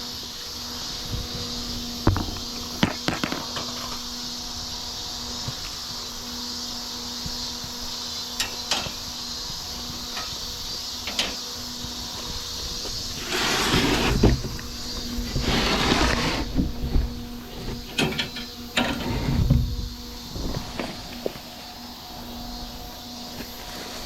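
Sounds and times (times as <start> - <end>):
small fans humming: 0.0 - 24.0.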